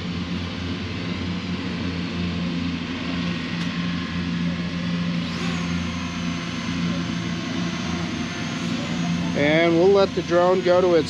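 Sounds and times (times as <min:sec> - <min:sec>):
drone motors whining: 0:00.0 - 0:11.0
mower engine hum: 0:00.0 - 0:11.0.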